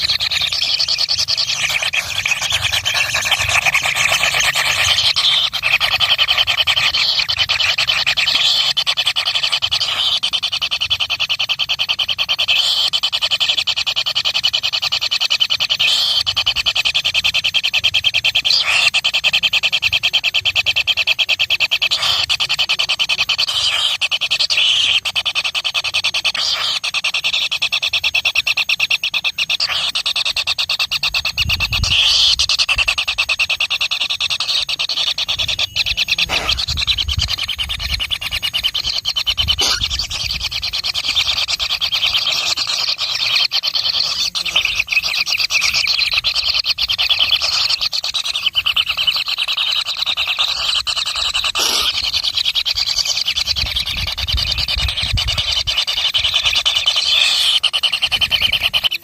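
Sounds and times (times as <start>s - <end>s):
baby birds begging chirps: 0.0s - 59.0s.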